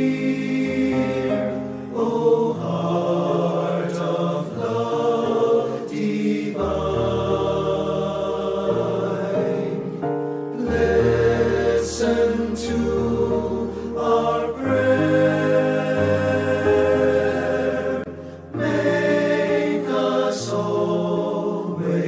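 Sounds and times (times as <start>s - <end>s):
choir singing a chant: 0.0s - 22.0s.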